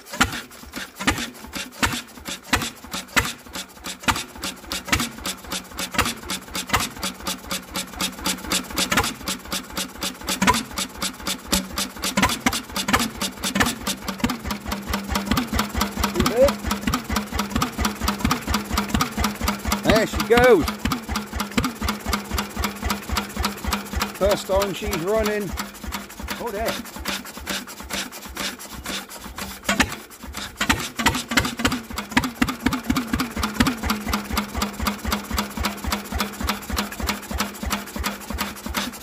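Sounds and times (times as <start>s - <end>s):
stationary engine exhaust pulses: 0.0s - 39.0s.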